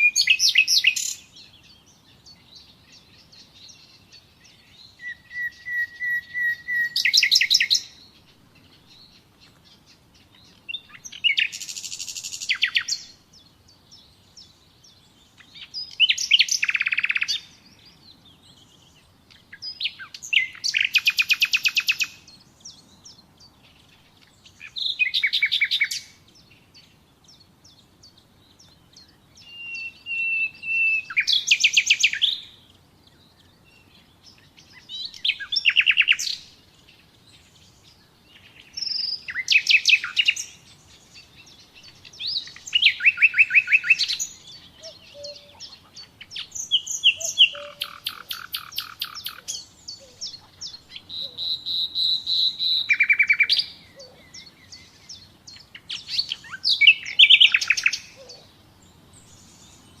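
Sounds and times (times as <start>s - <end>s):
nightingale singing trills: 0.0s - 60.0s.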